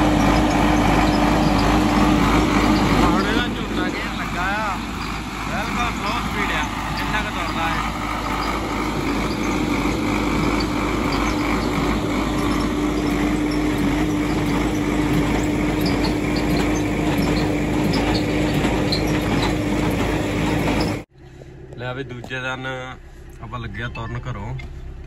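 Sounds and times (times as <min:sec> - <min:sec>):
baler ticking: 0:00.0 - 0:21.0
tractor engine running: 0:00.0 - 0:25.0.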